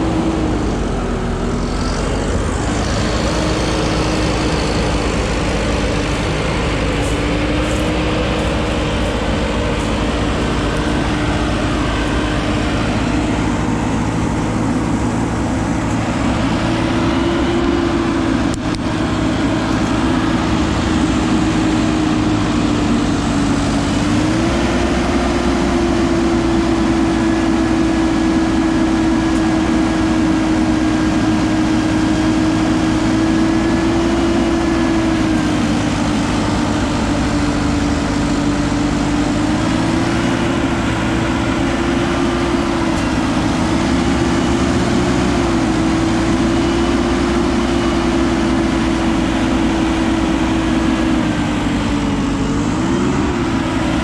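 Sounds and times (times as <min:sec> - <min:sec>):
heavy machine diesel engine: 0:00.0 - 0:54.0.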